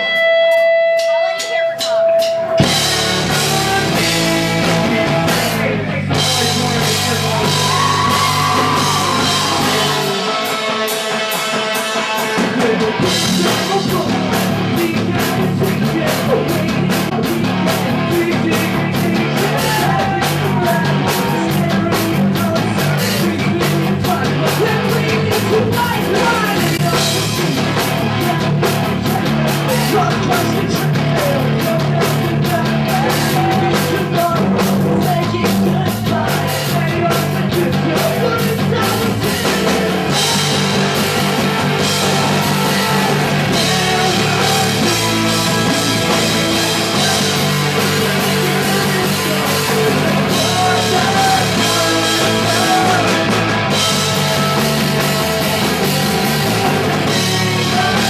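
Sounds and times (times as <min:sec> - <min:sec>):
person singing: 0:00.0 - 0:58.0
punk rock band playing: 0:00.0 - 0:58.0.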